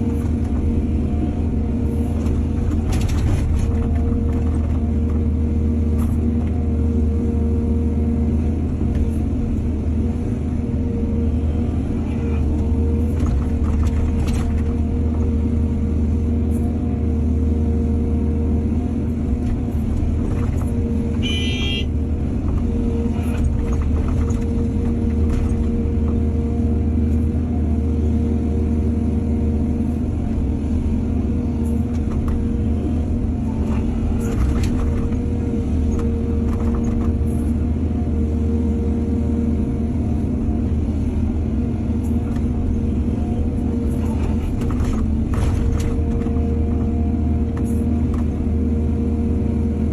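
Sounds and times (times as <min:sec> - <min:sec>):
diesel excavator engine running: 0:00.0 - 0:49.9.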